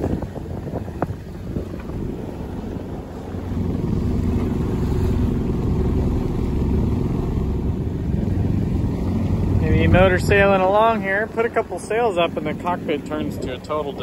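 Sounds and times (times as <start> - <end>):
boat engine humming: 0.0 - 14.0
water noise: 0.0 - 14.0
wind: 0.0 - 14.0.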